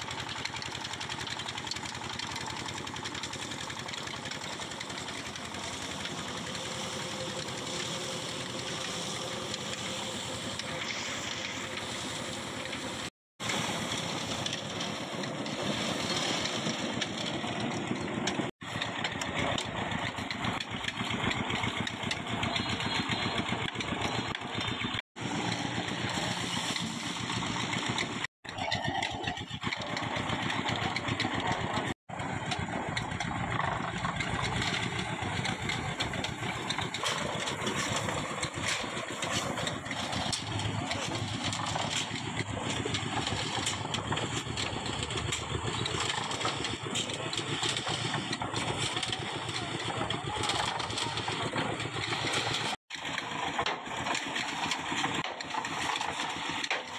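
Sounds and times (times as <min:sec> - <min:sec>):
concrete mixer engine droning: 0:00.0 - 0:56.9.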